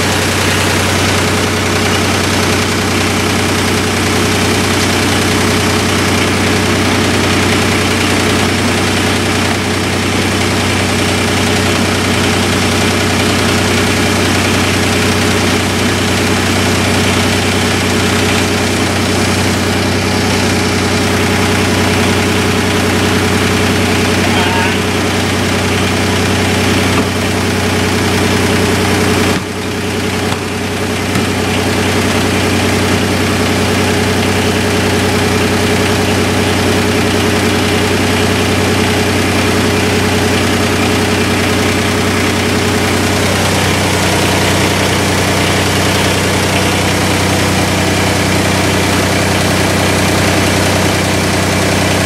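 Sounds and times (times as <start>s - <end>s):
engine running with low hum: 0.0s - 52.0s.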